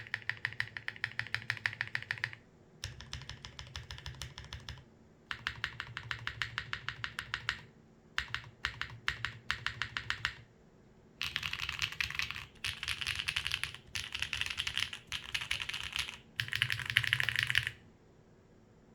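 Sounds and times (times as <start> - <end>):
mechanical keyboard typing: 0.0 - 10.4, 11.2 - 17.8.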